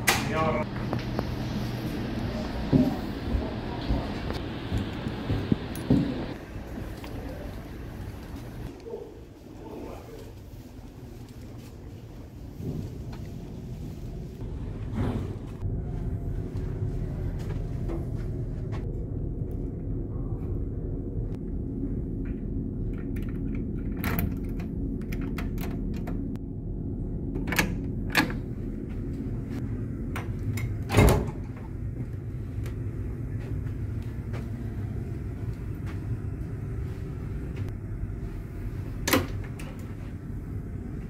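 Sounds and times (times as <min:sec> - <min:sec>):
low ship hum: 0:00.0 - 0:41.0.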